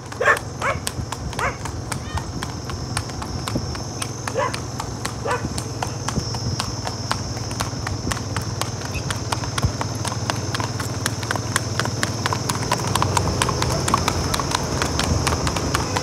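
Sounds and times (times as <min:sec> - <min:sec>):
horse hooves on asphalt: 0:00.0 - 0:16.0.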